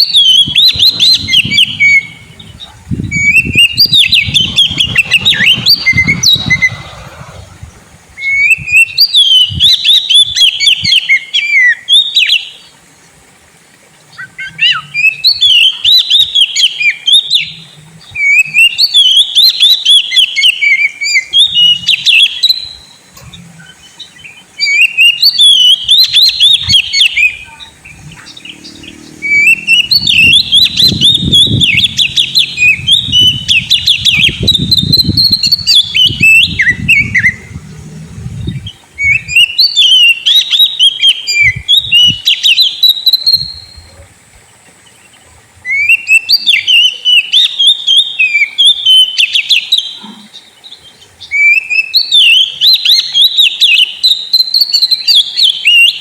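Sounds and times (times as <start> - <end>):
bird singing chattering phrases: 0.0 - 12.7, 14.1 - 44.0, 44.9 - 56.0.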